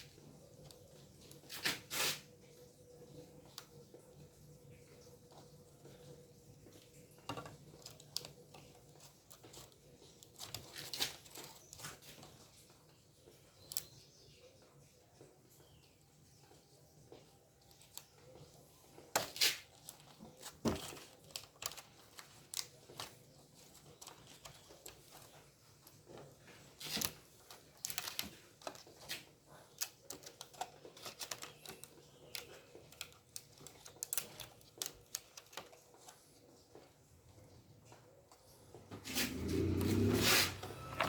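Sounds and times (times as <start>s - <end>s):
handling clicks taps and crackles: 2.5s - 15.8s, 16.4s - 39.0s.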